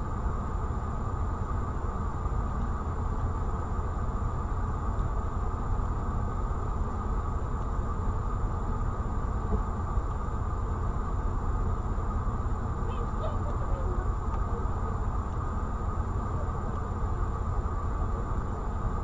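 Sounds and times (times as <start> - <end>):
faint high whine: 0.0 - 19.0
low rumble and hiss in car: 0.0 - 19.0.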